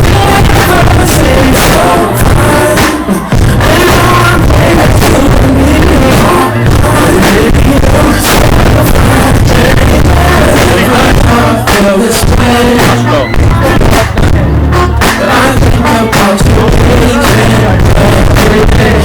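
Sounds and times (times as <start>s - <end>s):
loud bass-heavy beat: 0.0s - 19.0s
person singing: 0.0s - 19.0s.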